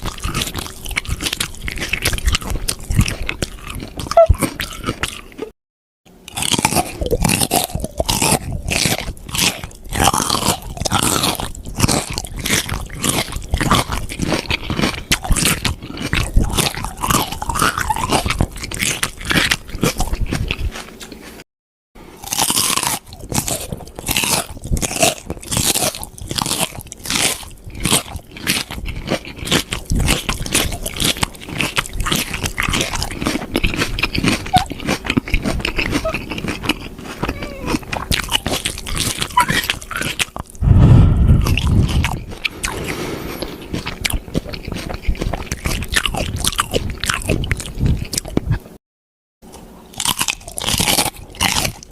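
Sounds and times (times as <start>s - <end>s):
crunchy food being chewed: 0.0s - 21.4s, 22.1s - 48.8s, 49.4s - 51.9s.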